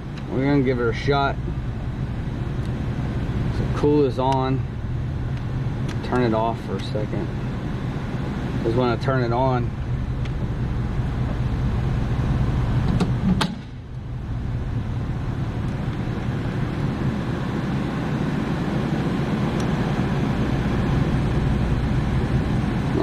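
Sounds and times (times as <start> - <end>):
hvac equipment humming: 0.0 - 23.0.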